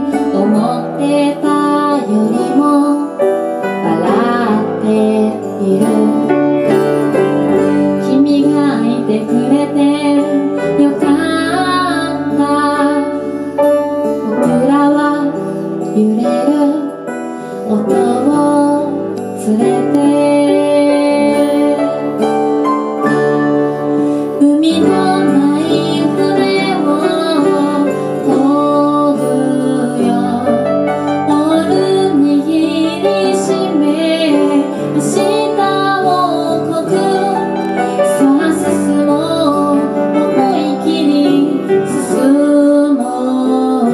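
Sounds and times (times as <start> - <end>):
woman singing slow song: 0.0 - 22.4, 24.2 - 43.9
piano: 0.0 - 43.9
plucked acoustic guitar: 0.0 - 43.9.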